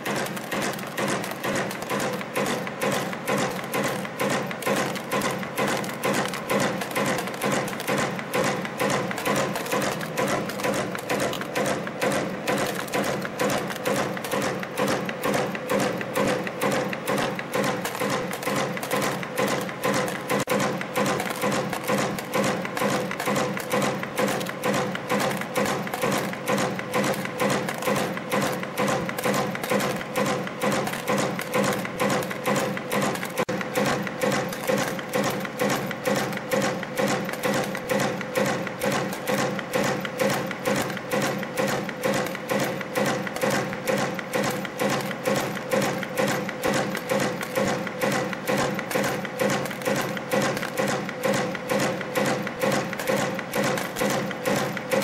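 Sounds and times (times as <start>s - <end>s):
rhythmic mechanical clatter: 0.0s - 55.0s
wire forming machine clicking: 0.0s - 55.0s.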